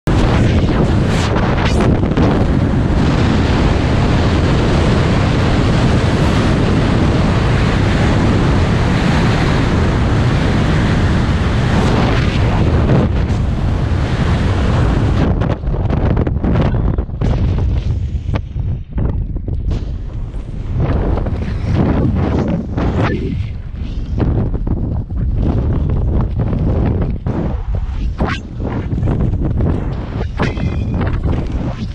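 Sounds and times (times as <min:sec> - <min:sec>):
wind rushing across microphone: 0:00.0 - 0:31.9.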